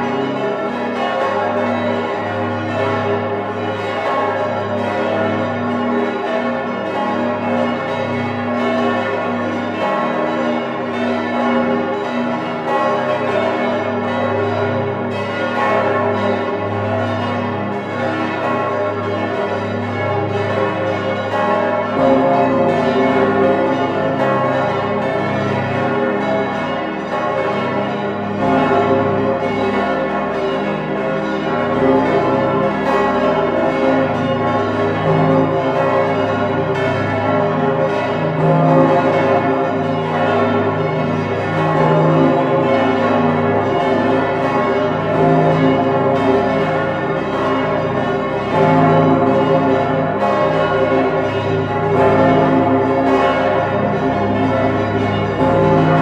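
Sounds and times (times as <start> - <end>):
large church bells ringing: 0.0 - 56.0.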